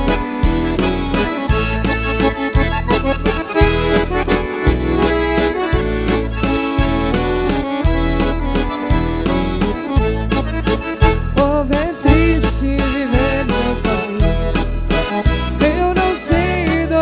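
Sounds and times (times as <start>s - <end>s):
accordion waltz: 0.0s - 17.0s
bass notes: 0.0s - 17.0s.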